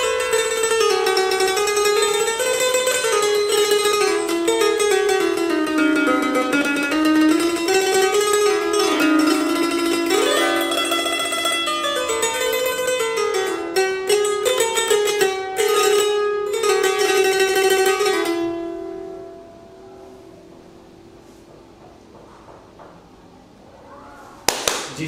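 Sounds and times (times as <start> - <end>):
electric lyre plucked: 0.0 - 21.5.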